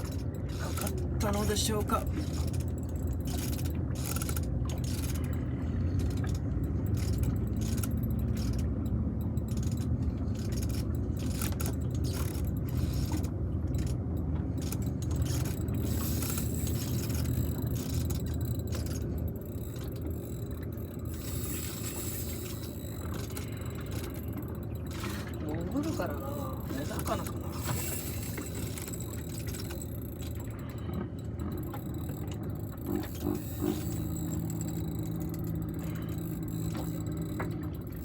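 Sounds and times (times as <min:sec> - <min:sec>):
fishing reel clicking: 0:00.0 - 0:38.0
steady low rumble: 0:00.0 - 0:38.0.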